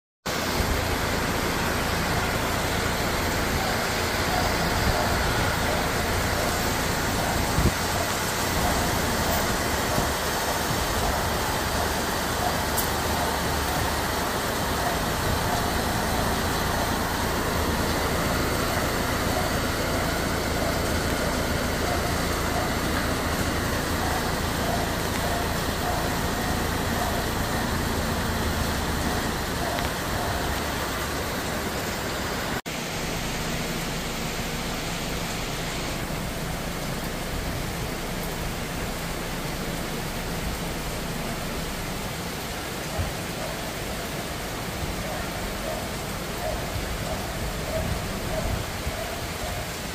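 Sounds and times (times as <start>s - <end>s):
heavy rain hissing: 0.3s - 49.9s.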